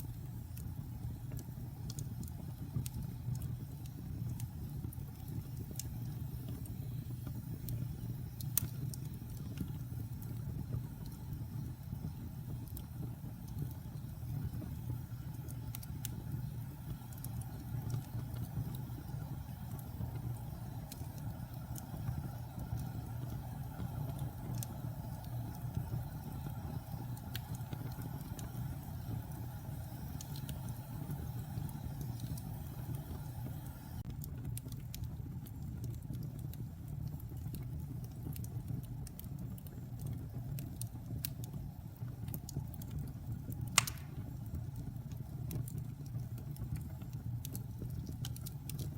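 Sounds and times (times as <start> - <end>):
fire crackling and popping: 0.0 - 48.9
fire roaring: 0.0 - 48.9.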